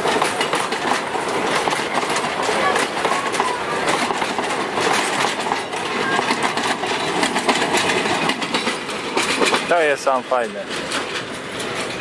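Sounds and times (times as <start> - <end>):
train wheels clicking over rail joints: 0.0 - 12.0.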